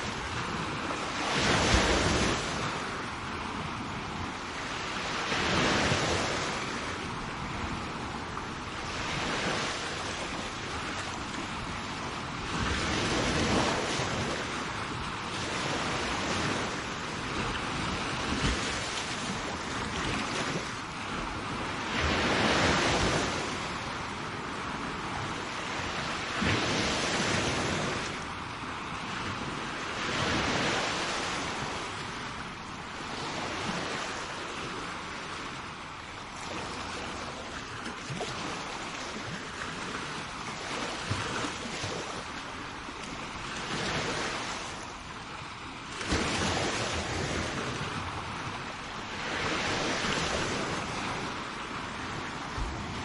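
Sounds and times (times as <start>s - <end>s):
sea waves breaking on shore: 0.0s - 53.0s.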